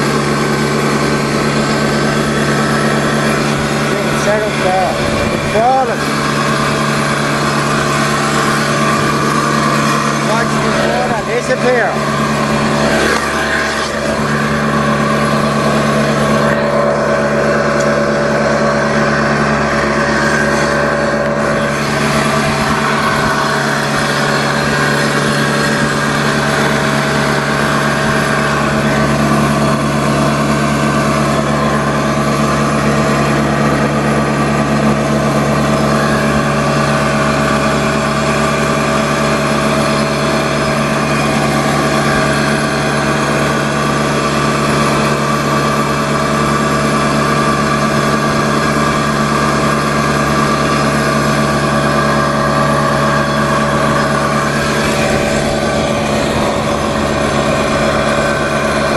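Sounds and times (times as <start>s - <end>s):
boat engine humming: 0.0s - 58.9s.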